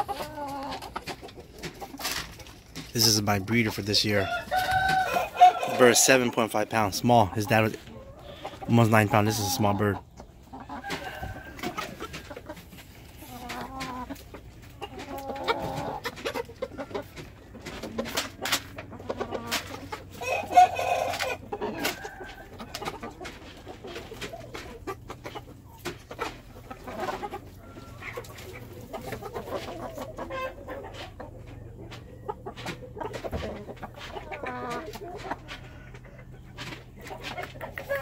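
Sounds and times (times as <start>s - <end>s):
chickens clucking and calling: 0.0s - 38.0s.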